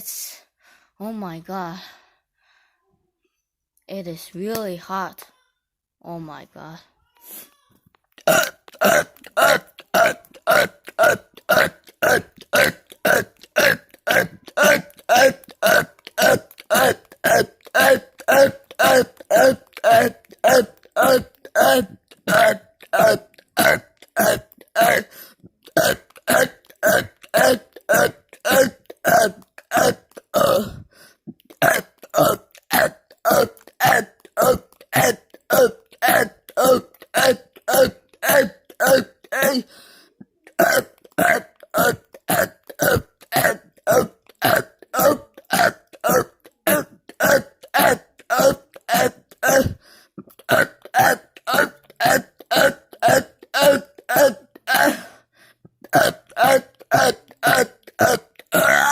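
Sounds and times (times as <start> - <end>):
person burping: 8.0 - 58.9.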